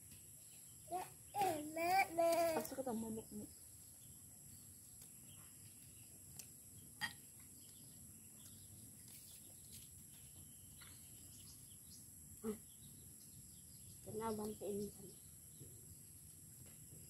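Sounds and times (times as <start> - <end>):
faint high insect drone: 0.0 - 8.8, 9.7 - 17.0.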